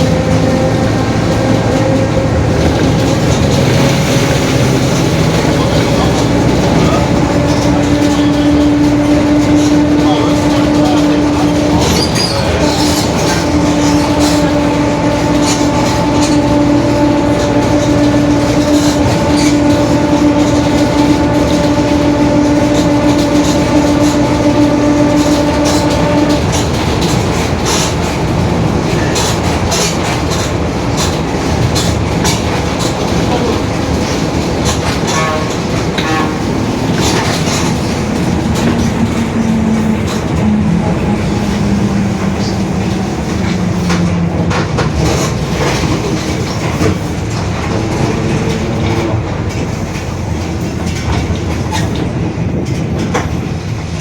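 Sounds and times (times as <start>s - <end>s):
bus body rattles: 0.0s - 54.0s
bus differential drone: 0.0s - 54.0s
road noise: 0.0s - 54.0s.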